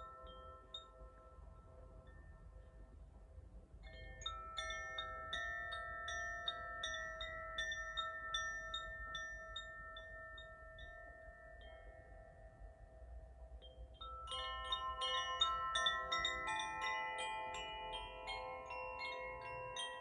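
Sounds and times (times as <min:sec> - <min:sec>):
wind chime ringing: 0:00.0 - 0:03.0, 0:03.8 - 0:20.0.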